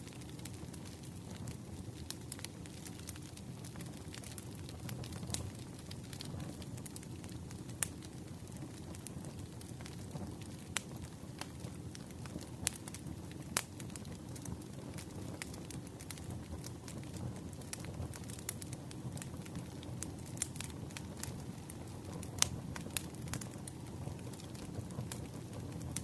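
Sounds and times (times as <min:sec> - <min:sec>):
campfire crackling: 0:00.0 - 0:26.0
fire snapping and popping: 0:00.0 - 0:26.0.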